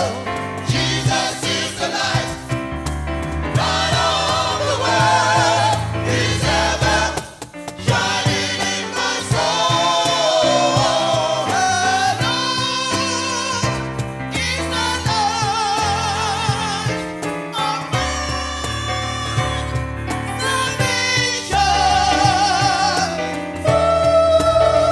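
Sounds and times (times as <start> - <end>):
gospel choir singing: 0.0 - 24.9
instrumental backing with bass: 0.0 - 24.9.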